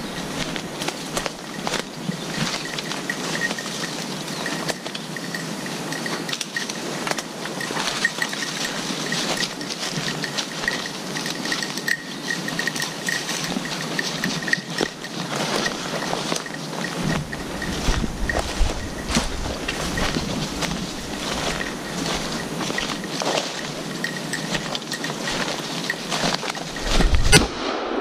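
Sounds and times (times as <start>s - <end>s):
brushing undergrowth: 0.0s - 27.6s
footsteps crunching dry leaves: 0.0s - 27.6s.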